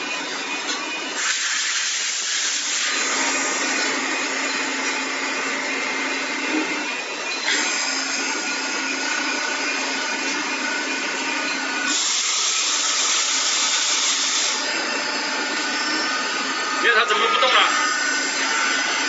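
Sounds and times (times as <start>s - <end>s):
milling machine whirring and hissing: 0.0s - 19.0s.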